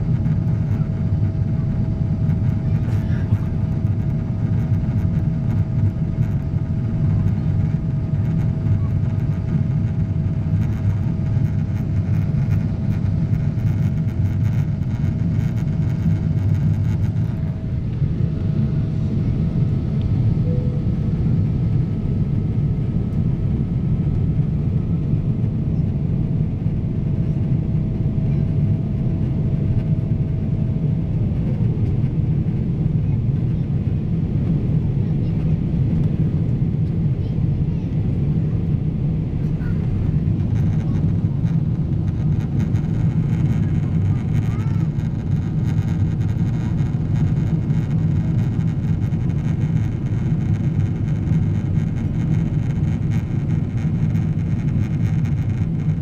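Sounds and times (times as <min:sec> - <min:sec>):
faint steady whine: 0:00.0 - 0:56.0
jet engine and airflow rumble: 0:00.0 - 0:56.0.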